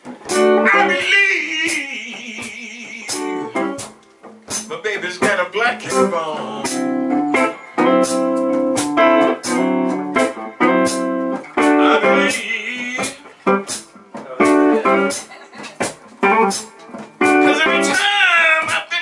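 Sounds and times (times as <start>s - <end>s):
amplified blues harmonica: 0.3s - 3.9s, 5.4s - 15.3s, 16.2s - 19.0s.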